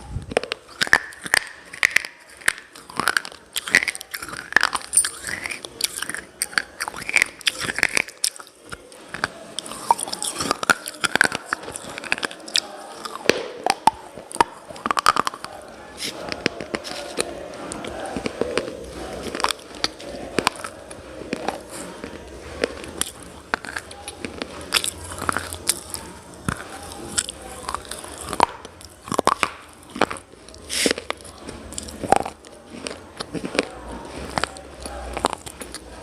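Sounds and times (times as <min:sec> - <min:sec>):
person chewing: 0:00.0 - 0:36.0
person crunching hard pieces: 0:00.0 - 0:36.0.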